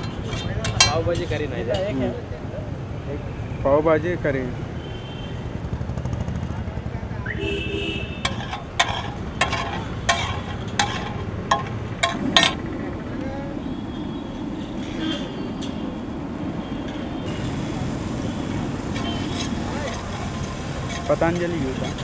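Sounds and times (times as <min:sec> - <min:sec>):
street noise: 0:00.0 - 0:22.0.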